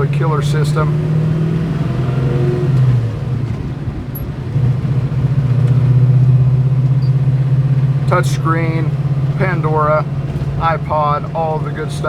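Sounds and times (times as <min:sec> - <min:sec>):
car engine drone from inside: 0:00.0 - 0:12.0.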